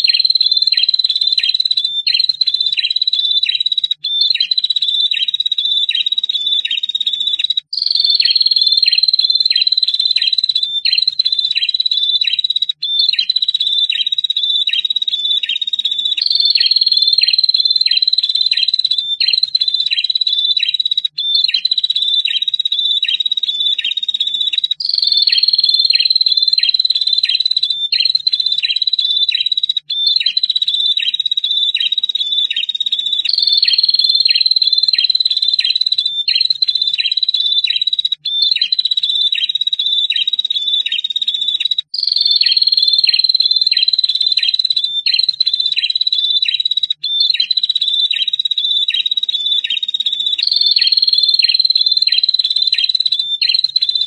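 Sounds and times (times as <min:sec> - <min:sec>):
birds calling in high trill: 0:00.0 - 0:54.0.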